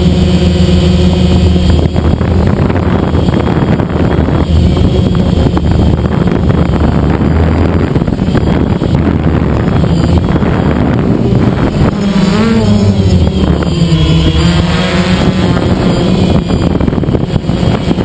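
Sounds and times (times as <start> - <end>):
drone motors and propellers: 0.0 - 18.0.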